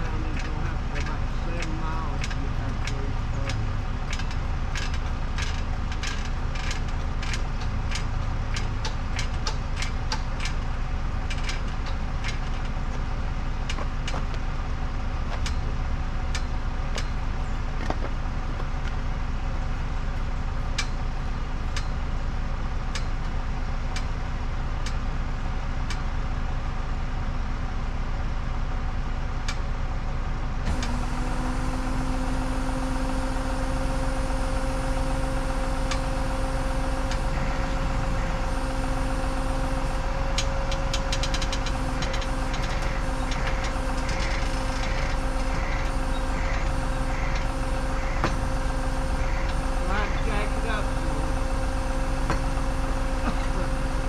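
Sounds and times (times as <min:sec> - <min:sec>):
higher steady hum: 0:00.0 - 0:54.0
tow truck engine running: 0:00.0 - 0:54.0.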